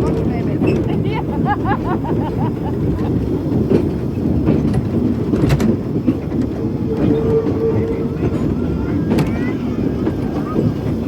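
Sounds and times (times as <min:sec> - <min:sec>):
railway carriage rumbling on track: 0:00.0 - 0:11.0
wheels clicking on rails: 0:00.0 - 0:11.0.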